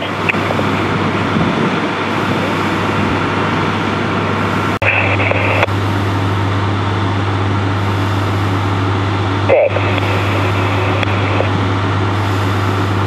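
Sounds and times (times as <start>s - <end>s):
diesel engines idling: 0.0s - 13.0s.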